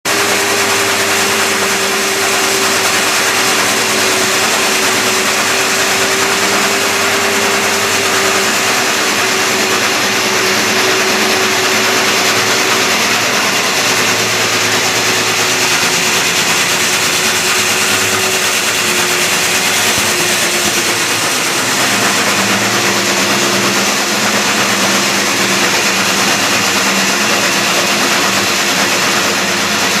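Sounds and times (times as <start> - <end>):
power drill with hole saw: 0.1 - 30.0.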